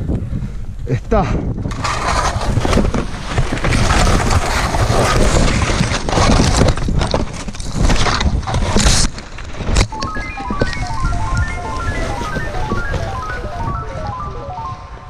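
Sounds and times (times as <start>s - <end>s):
wind over microphone: 0.0s - 15.0s
skis scraping in snow: 1.7s - 14.3s.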